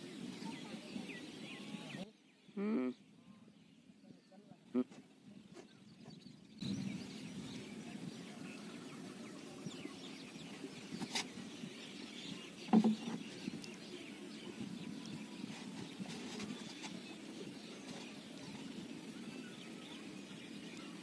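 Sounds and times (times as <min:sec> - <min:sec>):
birds calling: 0:00.0 - 0:21.0
outdoor background noise: 0:00.0 - 0:21.0.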